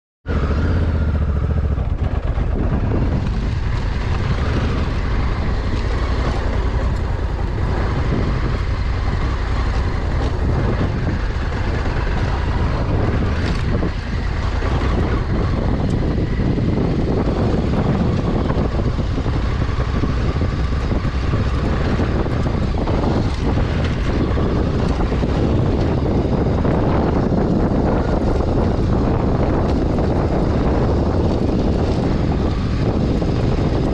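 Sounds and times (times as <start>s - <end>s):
motorcycle engine running: 0.3s - 33.9s
wind buffeting microphone: 0.3s - 33.9s.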